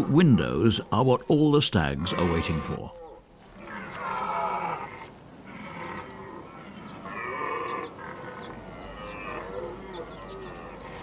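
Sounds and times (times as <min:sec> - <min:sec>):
deer stags roaring: 0:02.1 - 0:11.0.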